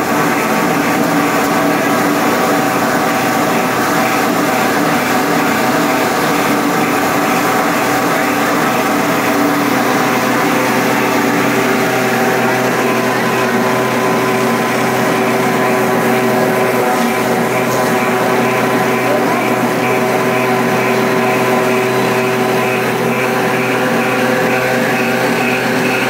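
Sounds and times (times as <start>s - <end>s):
loud machine hum: 0.0s - 26.0s.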